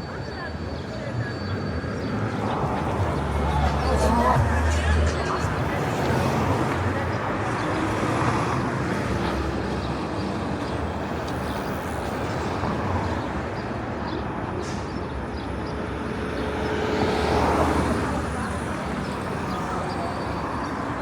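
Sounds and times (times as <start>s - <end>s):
vehicles passing on street: 0.0s - 21.0s.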